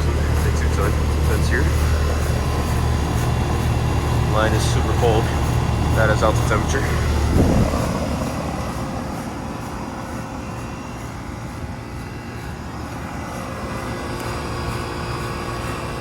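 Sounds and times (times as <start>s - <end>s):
air conditioner fan rushing: 0.0s - 16.0s
compressor humming: 0.0s - 16.0s
steady tones: 0.0s - 16.0s.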